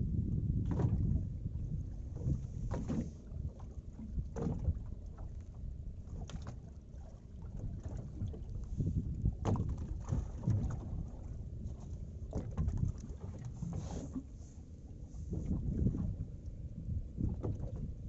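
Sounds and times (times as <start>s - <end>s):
low rumble: 0.0s - 18.0s
water lapping against boat hull: 0.0s - 18.0s.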